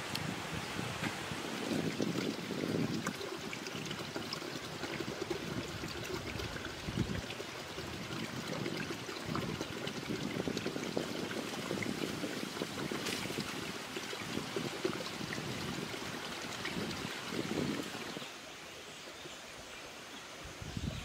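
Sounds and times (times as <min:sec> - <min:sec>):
stream trickling over rocks: 0:00.0 - 0:20.9.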